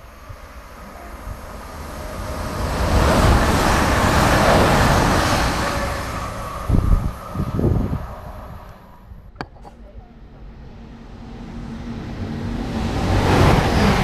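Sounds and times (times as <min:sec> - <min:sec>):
train rushing past: 0:00.0 - 0:09.0, 0:10.3 - 0:14.0.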